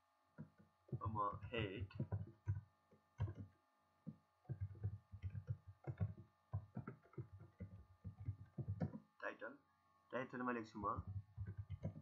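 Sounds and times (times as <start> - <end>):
keyboard typing: 0.4 - 9.1, 10.7 - 12.0.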